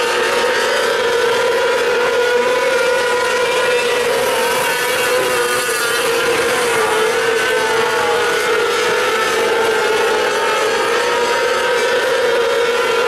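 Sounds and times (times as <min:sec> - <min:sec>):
racing engines high-pitched drone: 0:00.0 - 0:13.0.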